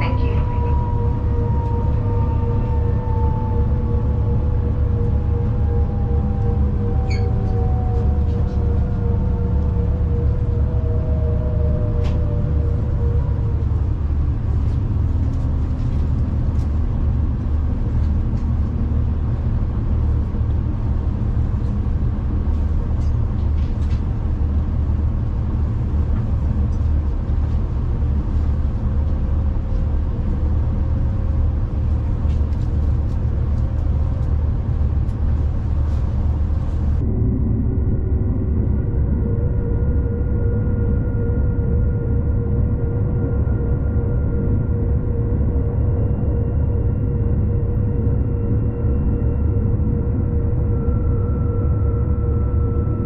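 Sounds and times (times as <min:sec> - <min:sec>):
low rumble of moving train: 0:00.0 - 0:53.0.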